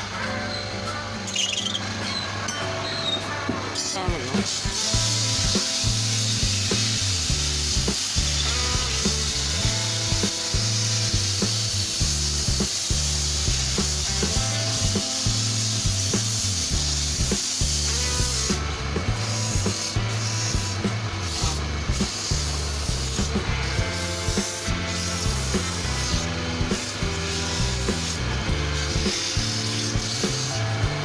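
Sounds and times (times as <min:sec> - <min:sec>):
background music with bass line: 0:02.0 - 0:31.0
steady hiss: 0:04.4 - 0:30.9.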